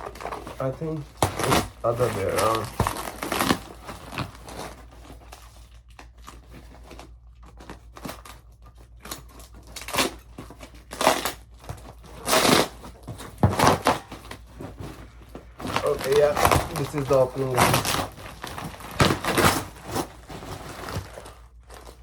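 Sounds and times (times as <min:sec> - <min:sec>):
packaging crinkling: 0:00.0 - 0:22.0.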